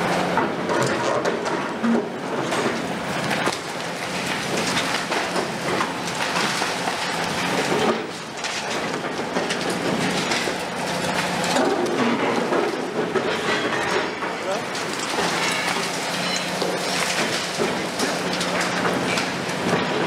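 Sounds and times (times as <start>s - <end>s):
concrete cracking and crunching: 2.4s - 20.0s.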